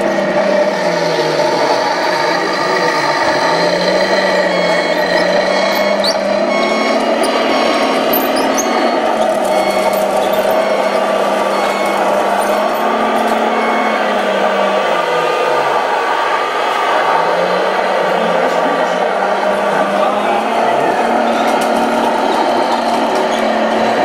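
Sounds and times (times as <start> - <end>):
toy diesel engine sound: 0.0 - 24.0.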